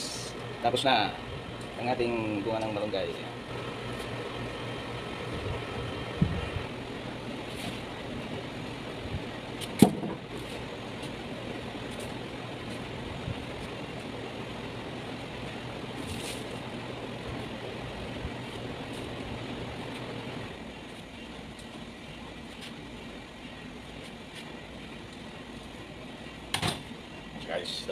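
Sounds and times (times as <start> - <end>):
low appliance hum: 0.0 - 27.9.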